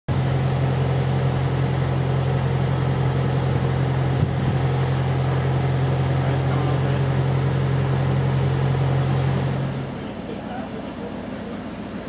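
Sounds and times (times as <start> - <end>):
crane engine humming: 0.1 - 12.0.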